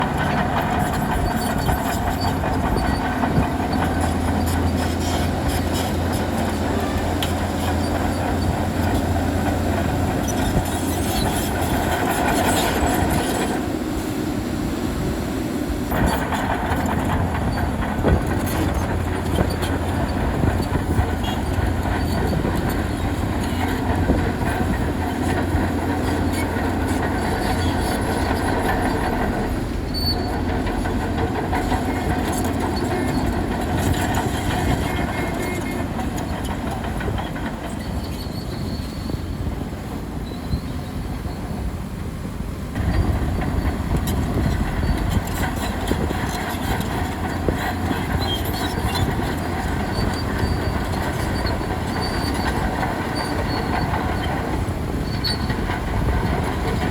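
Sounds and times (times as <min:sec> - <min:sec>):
diesel engine under load: 0:00.0 - 0:56.9
steel tracks clanking: 0:00.0 - 0:56.9.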